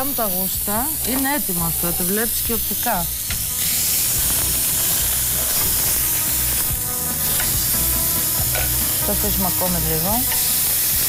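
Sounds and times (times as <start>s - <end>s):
meat sizzling in grill pan: 0.0s - 11.0s.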